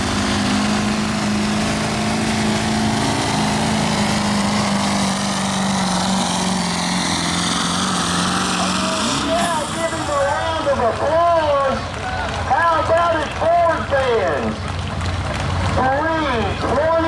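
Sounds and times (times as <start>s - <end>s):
diesel engine at high revs: 0.0s - 17.0s.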